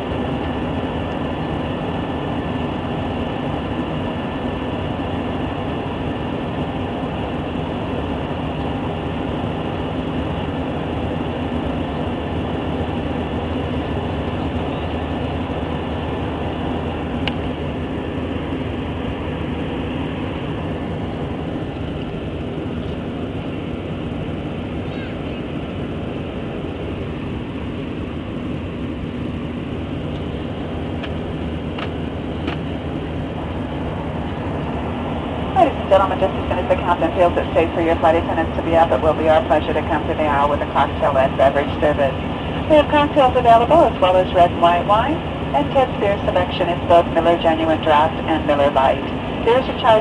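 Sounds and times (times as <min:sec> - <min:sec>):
jet engines and airflow roar: 0:00.0 - 0:50.0
low drone: 0:00.0 - 0:50.0.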